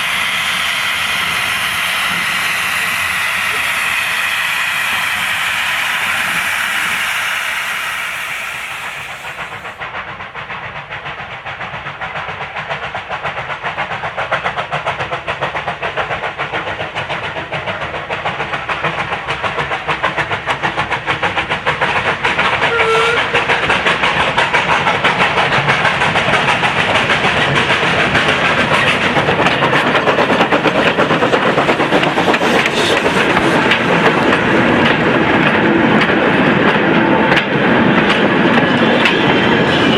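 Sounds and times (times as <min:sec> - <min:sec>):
steam hissing: 0:00.0 - 0:39.9
train clattering: 0:00.0 - 0:39.9.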